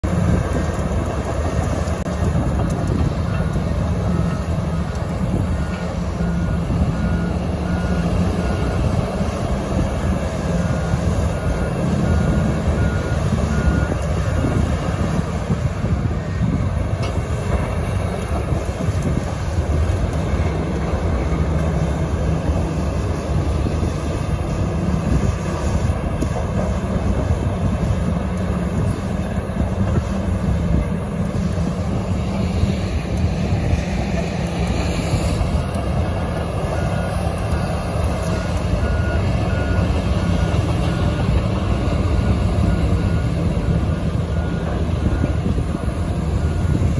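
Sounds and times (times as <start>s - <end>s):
heavy diesel machinery rumbling: 0.0s - 46.9s
reversing alarm beeping: 0.1s - 46.9s.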